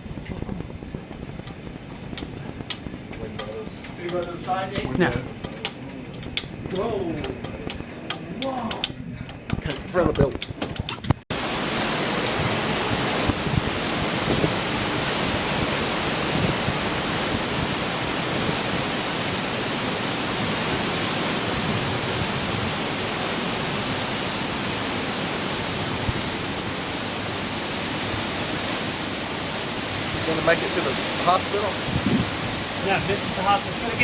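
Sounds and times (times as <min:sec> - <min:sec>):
loud rushing wind: 0:00.0 - 0:34.0.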